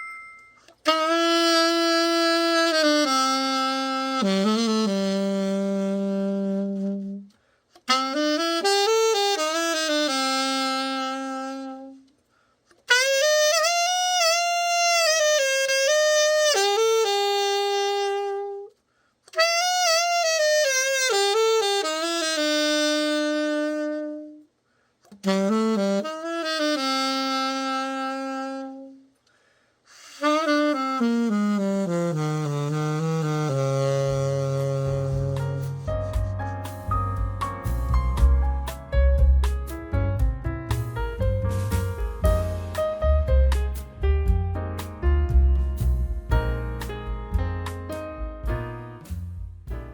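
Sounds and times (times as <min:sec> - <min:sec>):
alto saxophone solo melody: 0:00.6 - 0:49.9.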